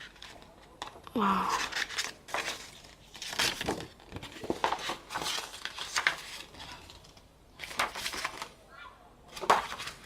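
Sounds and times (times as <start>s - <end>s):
paper and plastic rustling: 0.0s - 8.6s, 9.3s - 10.0s.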